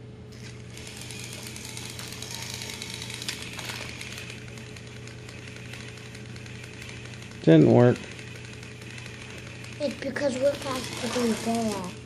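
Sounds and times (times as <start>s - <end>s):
toy train motor gear rattle: 0.3s - 12.0s.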